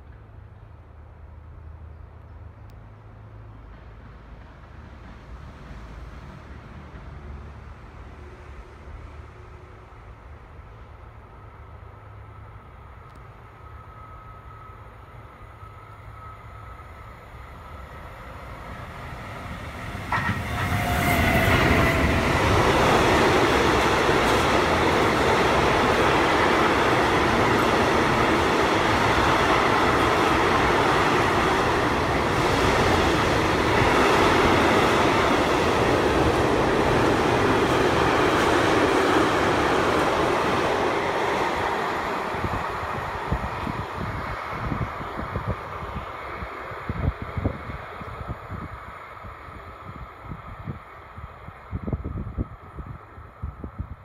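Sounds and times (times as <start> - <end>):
freight train passing: 0.0 - 54.0
wheels rumbling on rails: 2.6 - 54.0.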